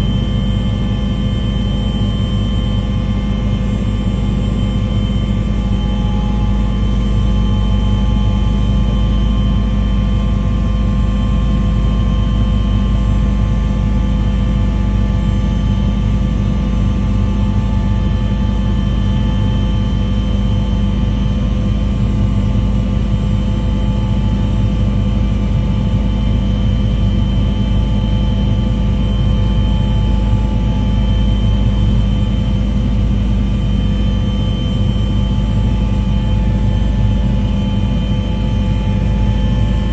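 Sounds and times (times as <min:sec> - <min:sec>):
loud engine-like drone: 0:00.0 - 0:39.9.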